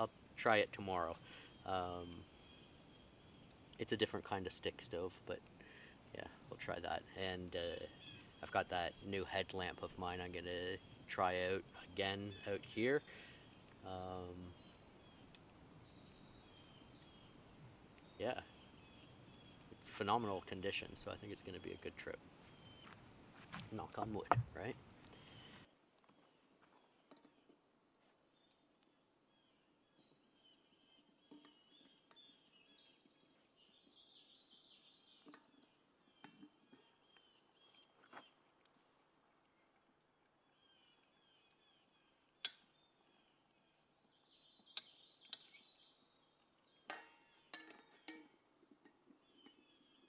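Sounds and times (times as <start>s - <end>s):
faint bird chirping: 0.0s - 50.0s.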